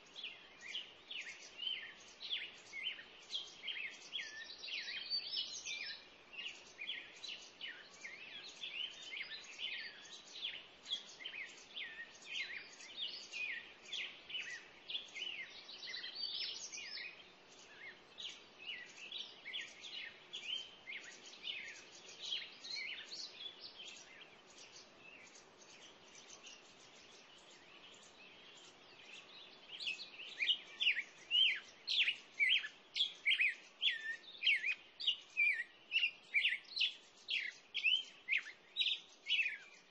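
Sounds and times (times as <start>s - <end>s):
birds chirping: 0.0s - 39.9s
faint steady hiss: 0.0s - 39.9s.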